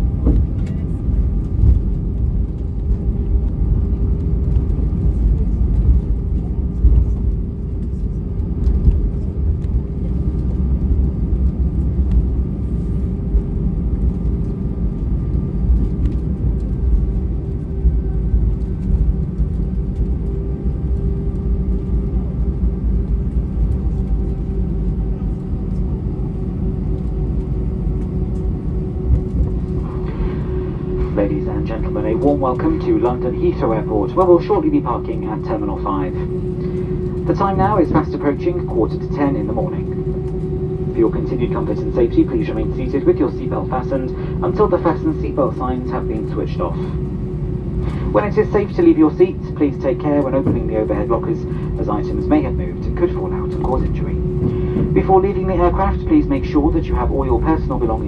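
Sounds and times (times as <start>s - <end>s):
aircraft rolling on tarmac: 0.0s - 58.0s
steady cabin hum: 0.0s - 58.0s.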